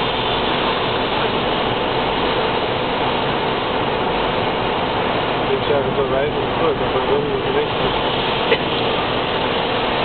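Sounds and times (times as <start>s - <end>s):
road and tyre noise in car: 0.0s - 10.0s.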